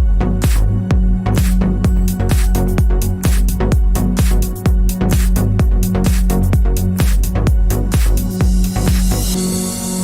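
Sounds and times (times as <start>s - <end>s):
steady kick drum beat: 0.0s - 9.4s
electronic dance music: 0.0s - 10.0s
hi-hats: 0.0s - 10.0s.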